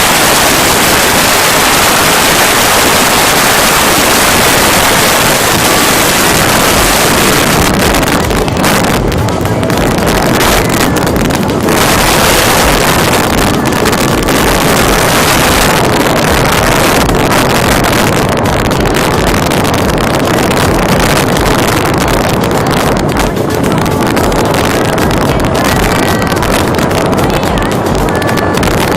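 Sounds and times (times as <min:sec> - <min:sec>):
vehicle driving rumble: 0:00.0 - 0:28.9
wind buffeting microphone: 0:00.0 - 0:28.9.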